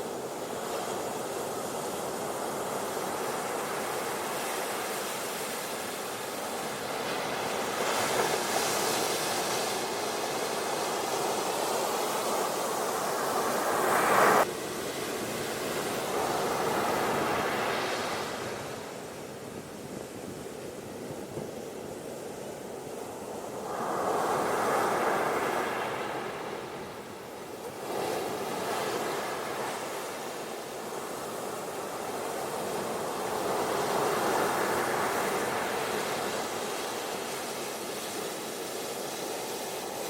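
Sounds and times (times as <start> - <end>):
ocean waves washing onto beach: 0.0 - 40.0.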